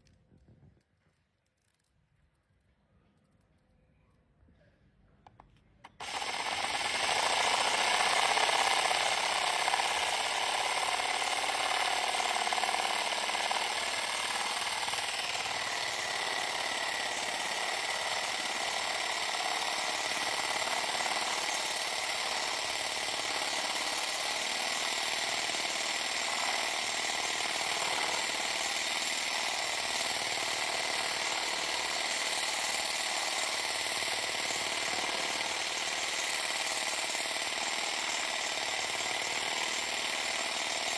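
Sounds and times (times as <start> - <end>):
power tool grinding grout: 6.0 - 40.9.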